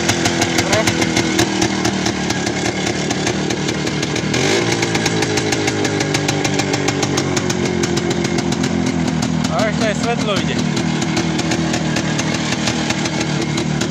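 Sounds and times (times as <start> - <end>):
two-stroke engine running: 0.0 - 13.9.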